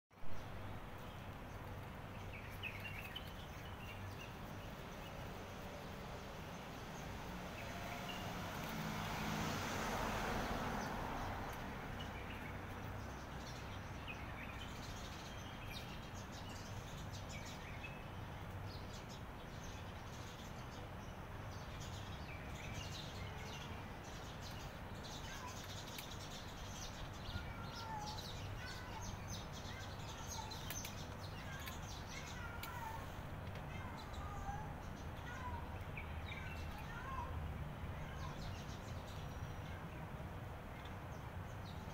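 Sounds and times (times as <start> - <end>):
outdoor background noise: 0.1 - 41.9
small birds chirping: 0.2 - 41.9.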